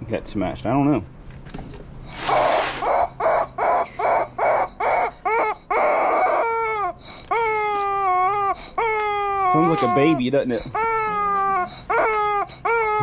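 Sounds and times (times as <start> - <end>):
rubber chicken toy squawking: 2.1 - 13.0.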